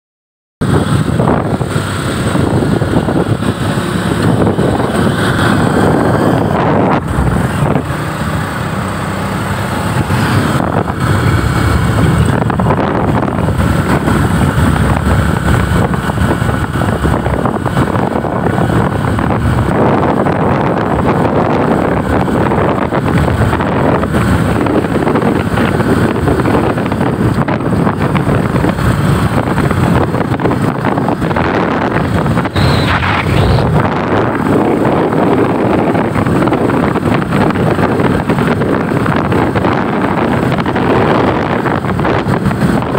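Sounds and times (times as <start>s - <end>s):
motorcycle engine running: 0.6s - 42.9s
wind buffeting microphone: 0.6s - 42.9s.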